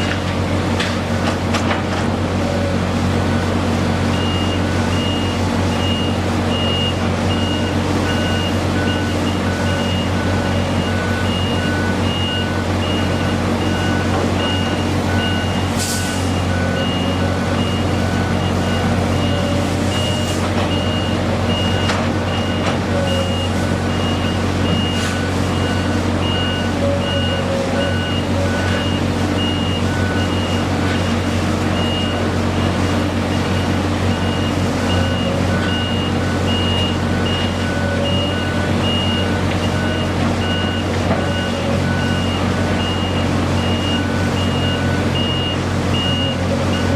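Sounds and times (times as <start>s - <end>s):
diesel engine running: 0.0s - 46.9s
backup alarm beeping: 4.1s - 32.7s, 33.3s - 46.9s.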